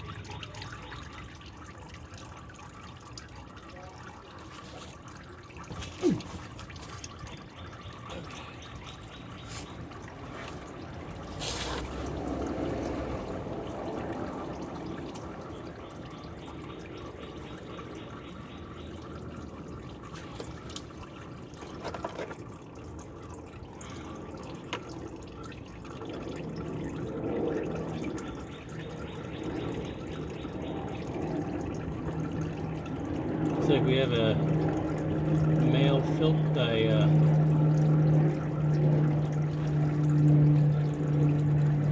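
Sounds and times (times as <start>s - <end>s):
oil dripping and trickling: 0.0s - 41.9s.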